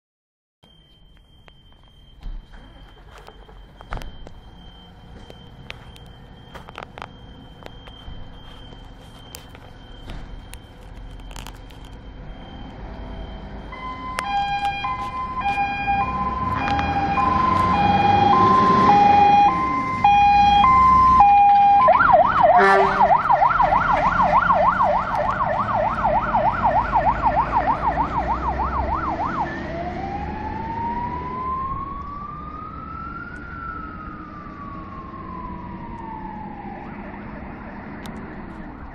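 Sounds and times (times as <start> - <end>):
fire engine siren: 0.6 - 38.9
fire engine pulling away: 0.7 - 38.9.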